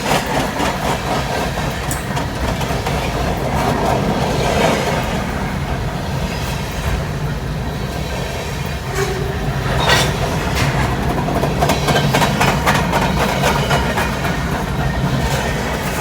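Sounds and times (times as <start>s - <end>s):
train rumbling past: 0.0s - 16.0s
train wheels clacking: 0.0s - 16.0s.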